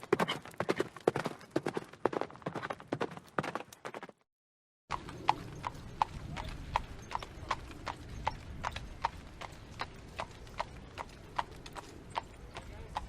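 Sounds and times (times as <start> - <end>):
horse hooves clip-clopping: 0.0 - 4.2, 4.9 - 13.0.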